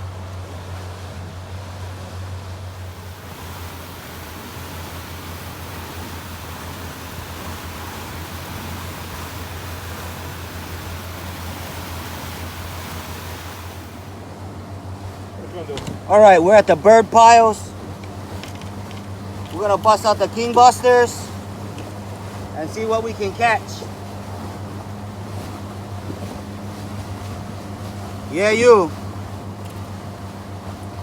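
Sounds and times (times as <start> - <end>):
boat engine humming: 0.0 - 31.0
rush of wind and water: 0.0 - 31.0.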